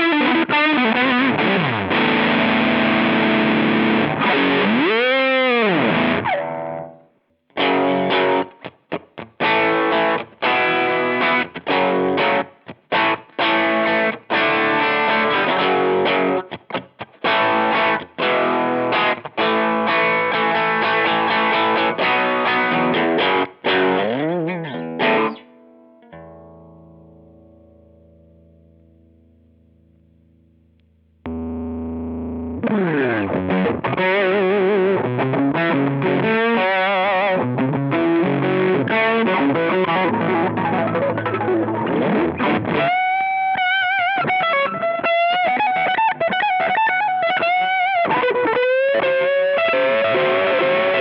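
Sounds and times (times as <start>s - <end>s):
distorted electric guitar: 0.0s - 51.0s.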